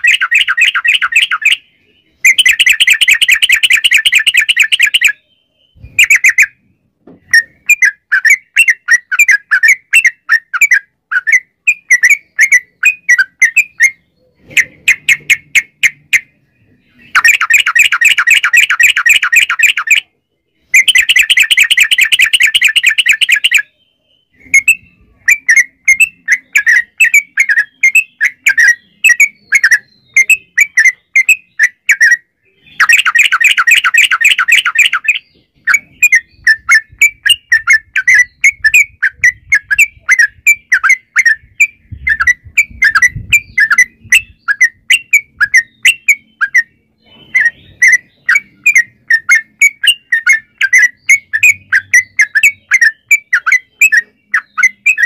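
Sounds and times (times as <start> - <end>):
bulbul singing chattering notes: 0.0 - 55.0.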